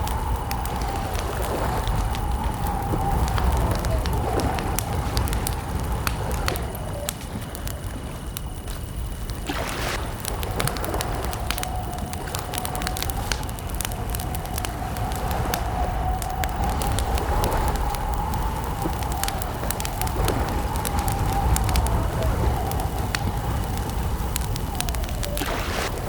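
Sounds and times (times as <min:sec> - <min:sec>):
campfire crackling and popping: 0:00.0 - 0:26.0
faint high insect tone: 0:00.0 - 0:26.0.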